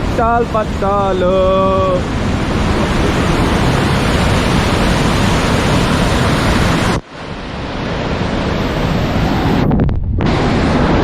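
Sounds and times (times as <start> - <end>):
waterfall roaring: 0.0 - 9.7.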